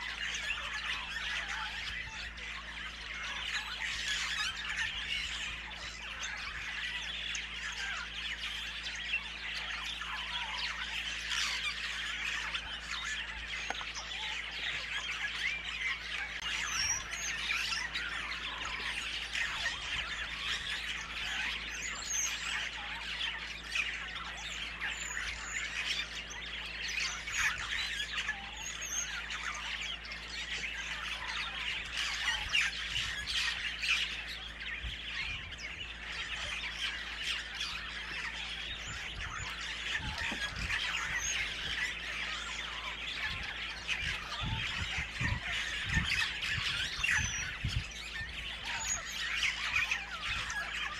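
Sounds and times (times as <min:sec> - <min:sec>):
birds squawking and chirping: 0:00.0 - 0:50.9.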